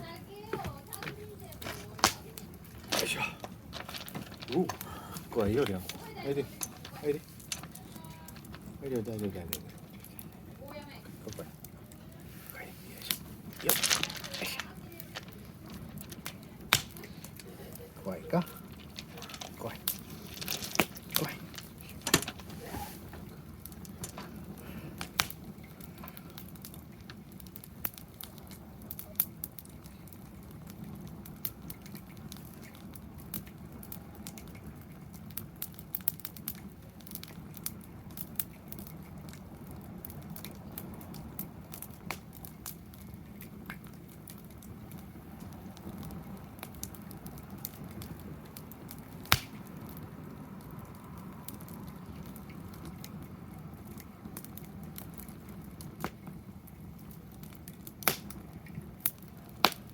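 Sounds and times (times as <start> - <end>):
sharp fire pops: 0.0 - 59.9
wood fire crackling: 0.0 - 59.9.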